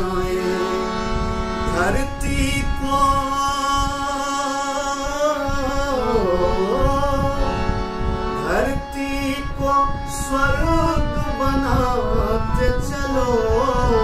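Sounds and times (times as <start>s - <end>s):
harmonium: 0.0s - 14.0s
man singing a devotional song: 0.0s - 14.0s.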